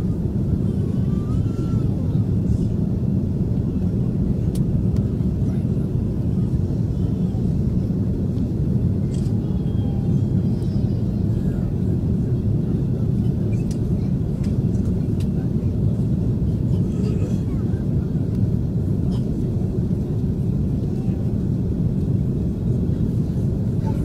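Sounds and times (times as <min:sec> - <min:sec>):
airliner engines rumbling: 0:00.0 - 0:24.0.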